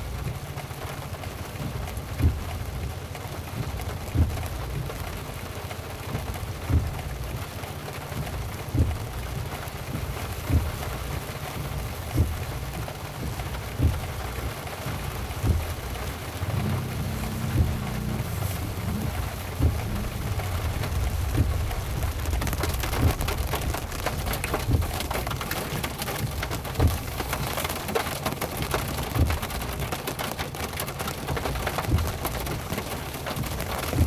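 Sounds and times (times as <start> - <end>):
car humming: 0.0 - 34.0
heavy rain on a car: 0.0 - 34.0
windshield wiper thumps: 0.2 - 34.0.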